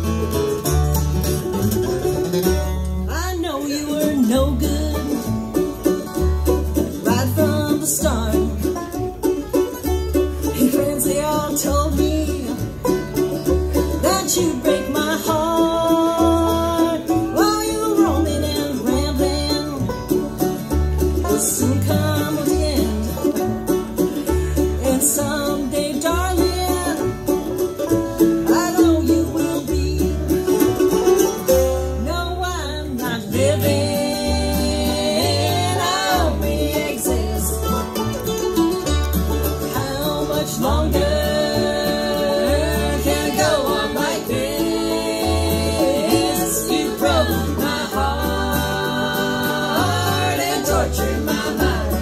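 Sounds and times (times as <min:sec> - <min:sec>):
acoustic guitar: 0:00.0 - 0:52.0
banjo: 0:00.0 - 0:52.0
mandolin: 0:00.0 - 0:52.0
upright bass plucking: 0:00.0 - 0:52.0.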